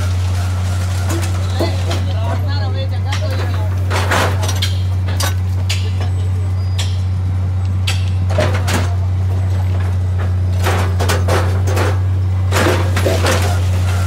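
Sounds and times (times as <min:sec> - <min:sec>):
metal clanks and rattles on rail: 0:00.0 - 0:07.2, 0:07.8 - 0:14.0.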